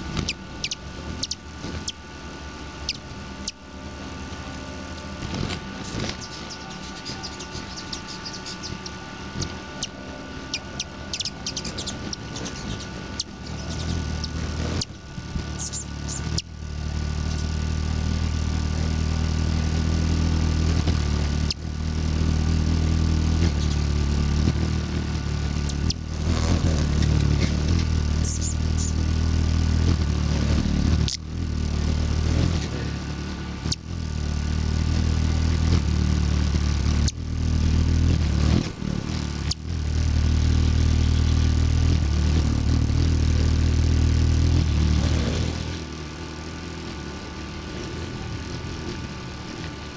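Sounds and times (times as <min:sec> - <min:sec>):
hummingbird wings humming: 0:00.0 - 0:49.9.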